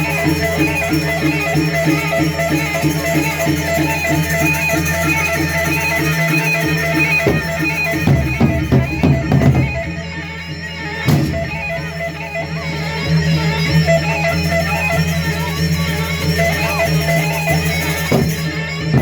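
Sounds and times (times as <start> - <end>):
percussion ensemble playing: 0.0 - 19.0.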